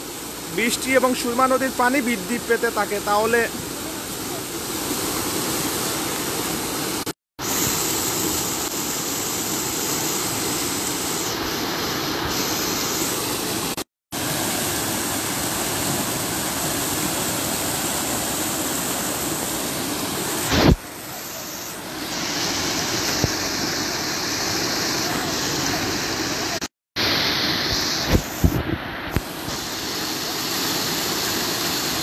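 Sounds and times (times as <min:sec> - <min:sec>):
floodwater rushing and churning: 0:00.0 - 0:32.0.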